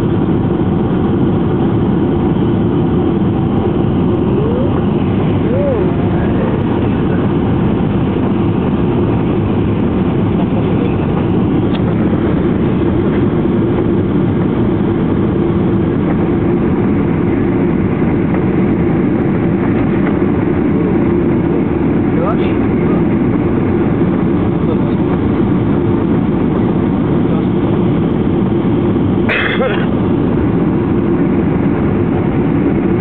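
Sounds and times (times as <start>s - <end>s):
airplane cabin engine rumble: 0.0s - 33.0s
constant hum: 0.0s - 33.0s.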